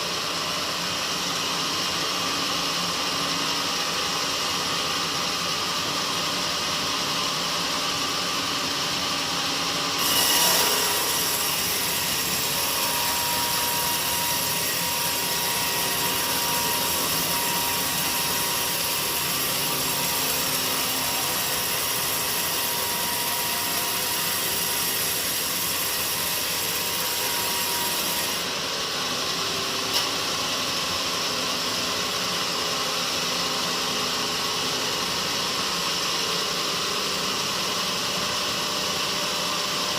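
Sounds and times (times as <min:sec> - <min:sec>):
mill machinery running: 0:00.0 - 0:39.9
saw cutting through log: 0:07.0 - 0:39.9.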